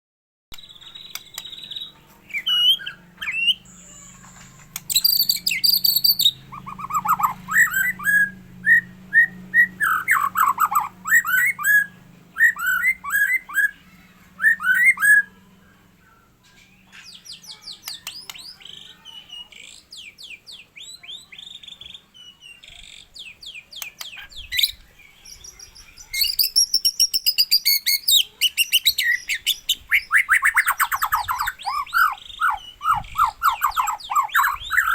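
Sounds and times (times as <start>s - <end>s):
songbird singing: 0.5s - 34.9s.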